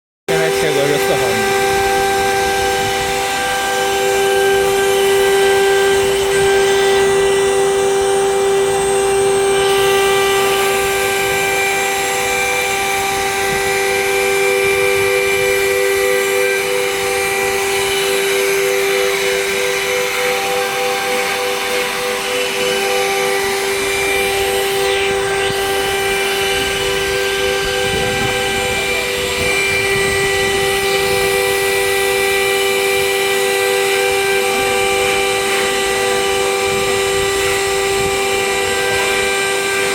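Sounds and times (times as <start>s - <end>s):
high-pitched spindle whine: 0.3s - 39.9s
router cutting metal: 0.3s - 39.9s.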